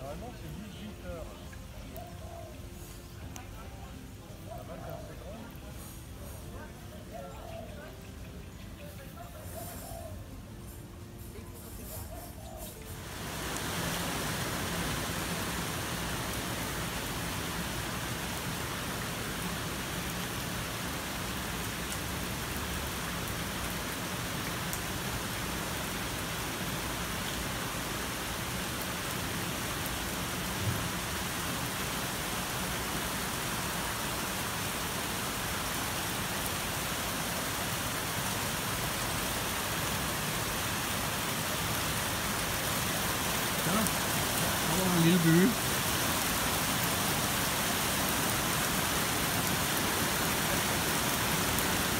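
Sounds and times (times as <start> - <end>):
heavy rain on water and paving: 0.0 - 51.9.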